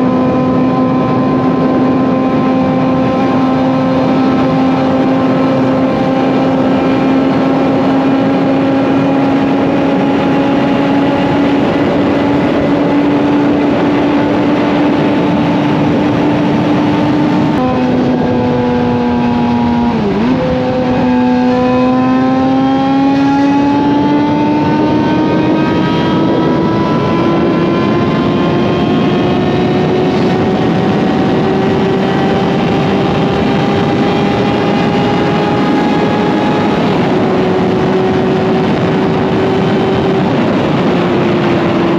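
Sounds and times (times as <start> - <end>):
motorcycle engine running hard: 0.0 - 41.9
wind rushing: 0.0 - 41.9.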